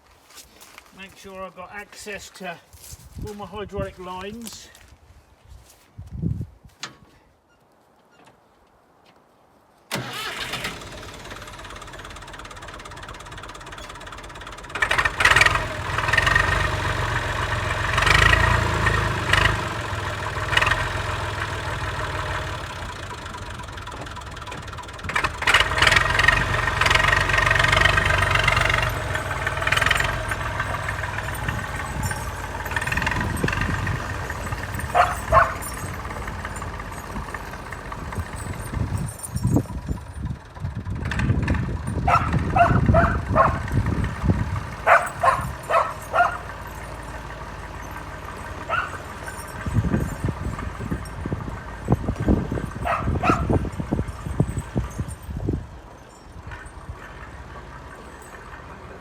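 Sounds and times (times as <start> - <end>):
tractor engine revving: 9.9 - 59.0.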